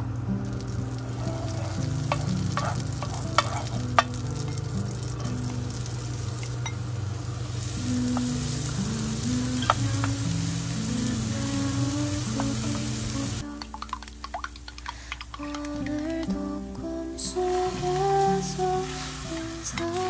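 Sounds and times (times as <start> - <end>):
food sizzling in a pan: 0.0 - 20.0
soft background music: 0.0 - 20.0.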